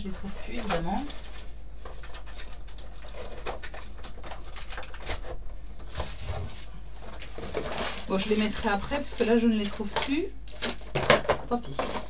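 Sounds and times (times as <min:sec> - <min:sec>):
rustling of small supplies: 0:00.0 - 0:12.0.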